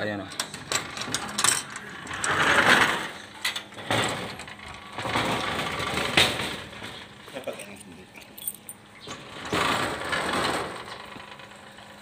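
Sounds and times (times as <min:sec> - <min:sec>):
sliding screen door rolling: 0:00.3 - 0:07.4, 0:09.0 - 0:12.0.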